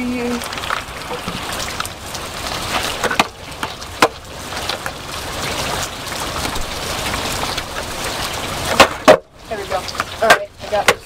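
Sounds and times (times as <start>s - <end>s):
rain on wet pavement: 0.0s - 11.0s.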